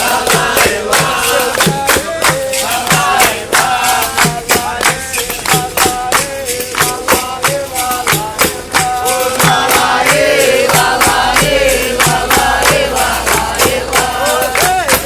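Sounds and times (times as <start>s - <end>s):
berimbau and percussion beat: 0.0s - 15.0s
call-and-response group singing: 0.0s - 15.0s.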